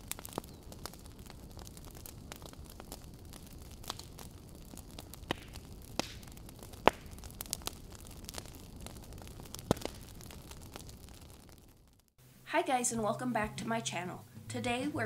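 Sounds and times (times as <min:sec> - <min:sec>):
fireplace crackling and popping: 0:00.0 - 0:15.0.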